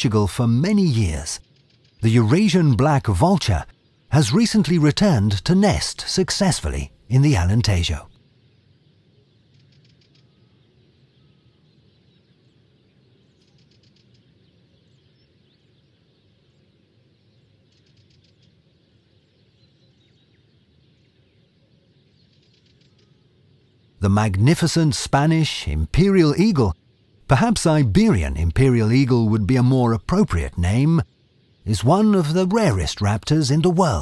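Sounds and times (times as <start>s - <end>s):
faint outdoor ambience: 0.0s - 34.0s.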